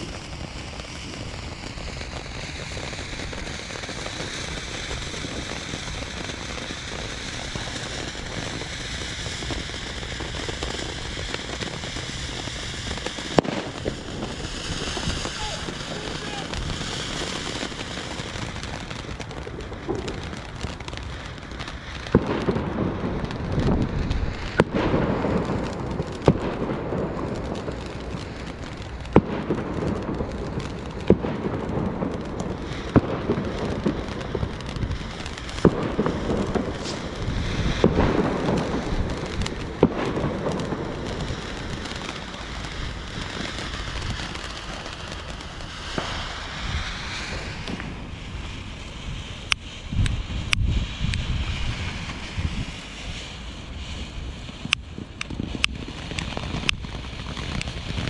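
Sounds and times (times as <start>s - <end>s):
firework fountain hissing and crackling: 0.0s - 58.0s
sharp firework bangs: 0.0s - 58.0s.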